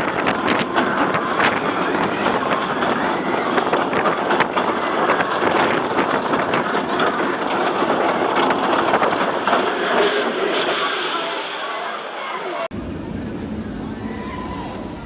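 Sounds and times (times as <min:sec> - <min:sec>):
roller coaster wheels rattling on track: 0:00.0 - 0:15.0.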